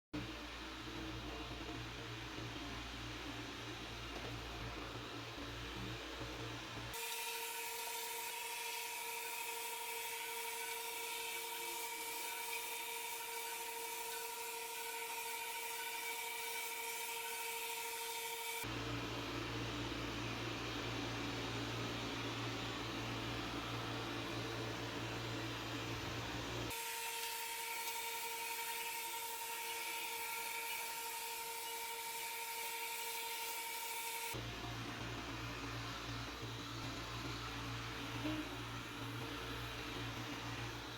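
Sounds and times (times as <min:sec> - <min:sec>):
robot vacuum motor whine: 0:00.8 - 0:40.9.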